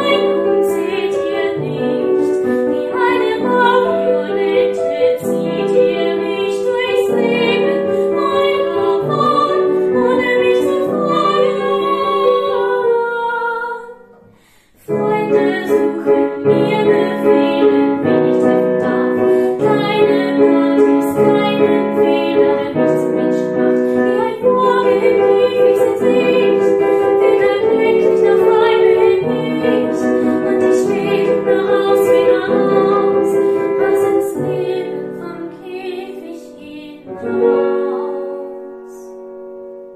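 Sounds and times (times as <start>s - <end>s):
woman singing: 0.0s - 14.2s, 14.8s - 39.2s
piano accompaniment: 0.0s - 39.9s.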